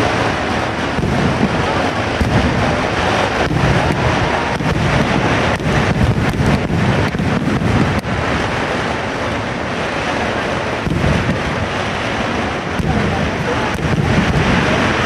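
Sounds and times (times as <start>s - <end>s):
firecracker explosions rumbling: 0.0s - 15.0s
sharp firework cracks: 0.0s - 15.0s.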